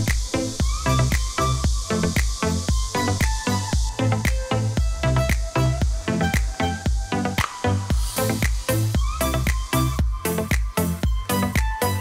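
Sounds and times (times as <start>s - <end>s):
electronic beat with heavy bass: 0.0s - 12.0s.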